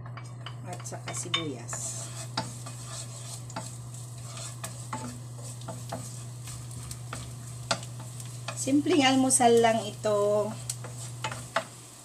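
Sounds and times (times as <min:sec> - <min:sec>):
garlic and onion sizzling: 0:00.0 - 0:12.0
wooden spatula knocking pan: 0:00.1 - 0:11.8.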